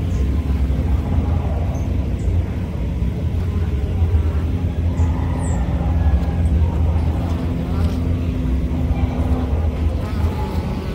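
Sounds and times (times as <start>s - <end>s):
low rumble: 0.0s - 10.4s
honeybee buzzing: 0.0s - 10.9s.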